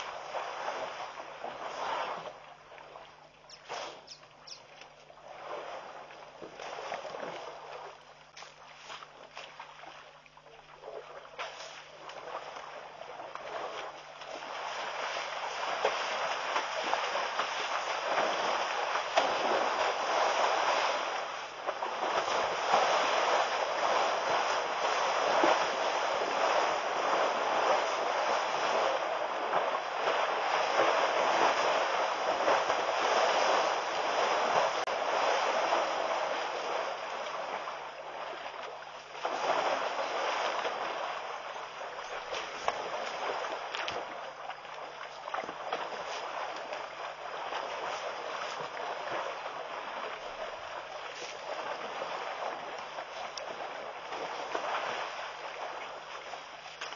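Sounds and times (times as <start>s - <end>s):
elephants splashing in water: 0.0s - 56.9s.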